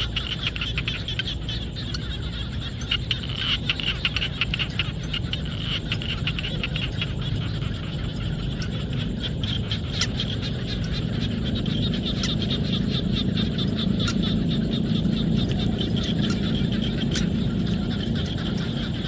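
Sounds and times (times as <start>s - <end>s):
frogs clicking calls: 0.0s - 19.0s
high-pitched pulsing hum: 0.0s - 19.0s.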